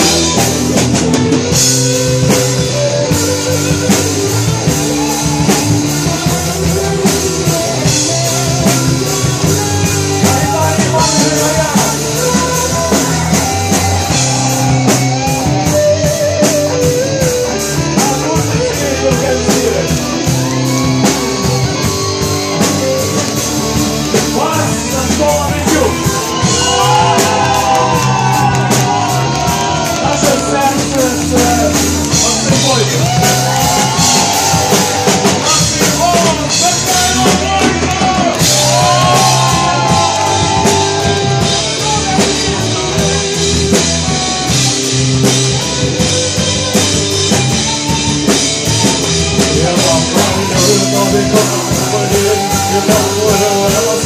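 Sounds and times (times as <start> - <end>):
bass: 0.0 - 54.0
drum kit: 0.0 - 54.0
pitch-bending lead melody: 0.0 - 54.0
rock band playing: 0.0 - 54.0.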